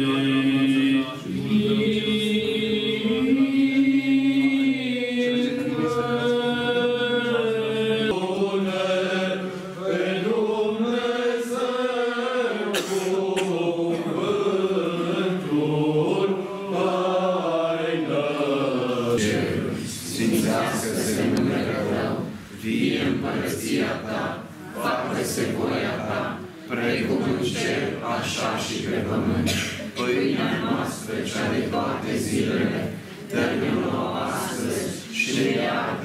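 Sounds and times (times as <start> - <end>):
voices chanting slow melody: 0.0 - 36.0.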